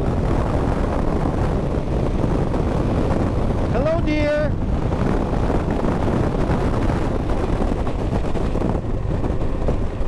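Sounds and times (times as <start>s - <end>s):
motorcycle running: 0.0s - 10.0s
wind rush over microphone: 0.0s - 10.0s.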